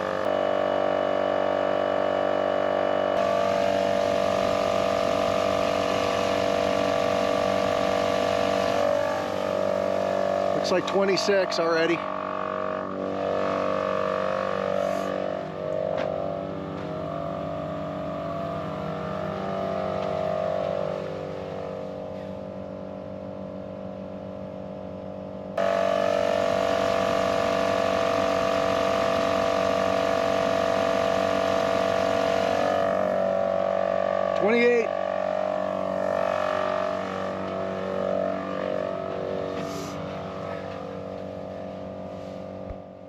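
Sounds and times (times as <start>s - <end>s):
air compressor motor drone: 0.0s - 43.0s.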